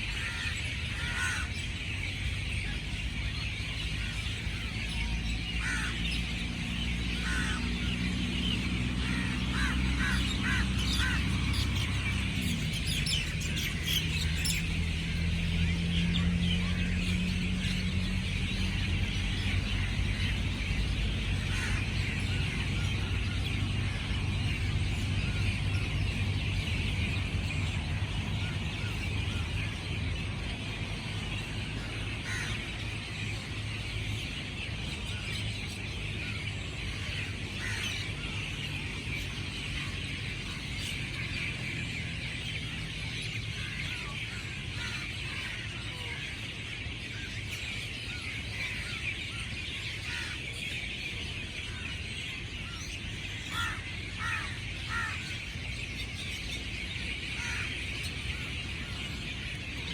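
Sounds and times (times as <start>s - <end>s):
low motor-like hum: 0.0s - 50.4s.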